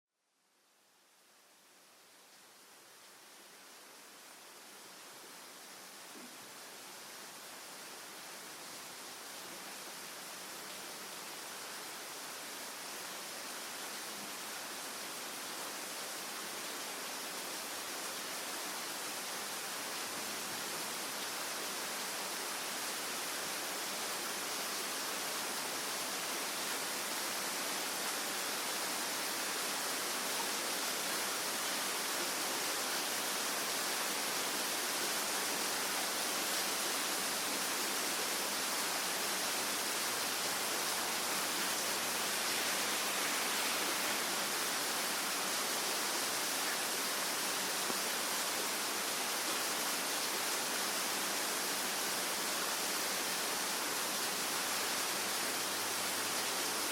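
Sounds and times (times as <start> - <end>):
steady rain hiss: 0.3 - 56.9.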